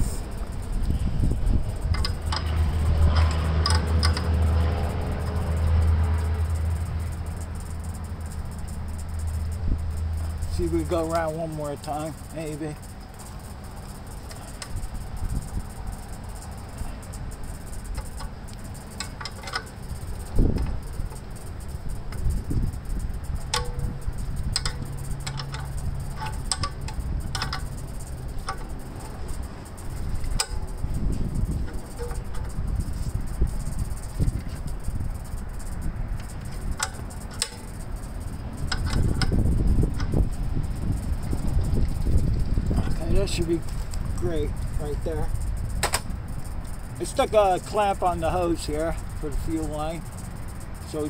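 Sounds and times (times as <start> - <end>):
steady low hum: 0.0 - 51.0
wind buffeting microphone: 0.0 - 51.0
wrench clicking on metal fitting: 0.0 - 51.0.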